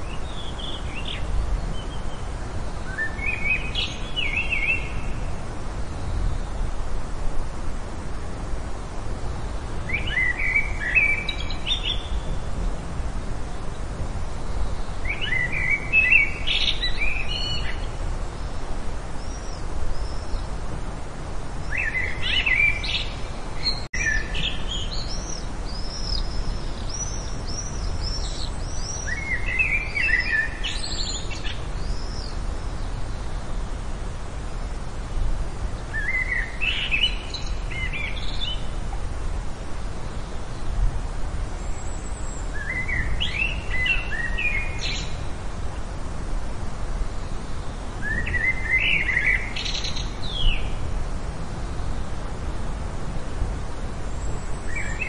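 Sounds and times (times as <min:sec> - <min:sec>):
steady low background noise: 0:00.0 - 0:55.0.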